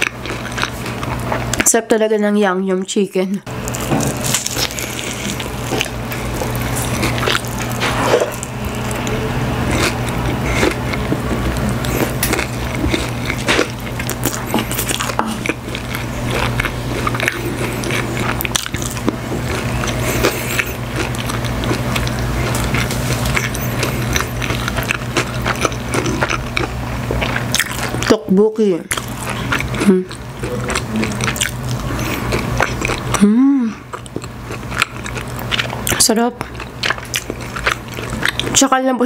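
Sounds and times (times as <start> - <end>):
biting and chewing chicken: 0.0 - 1.7, 3.5 - 28.2, 28.9 - 38.7
wet mouth sounds: 4.2 - 28.1, 28.9 - 38.6.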